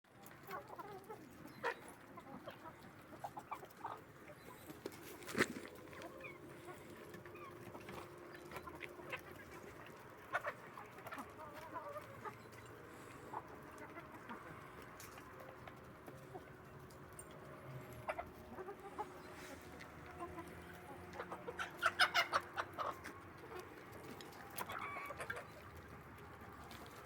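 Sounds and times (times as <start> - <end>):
chickens clucking: 0.1 - 27.0.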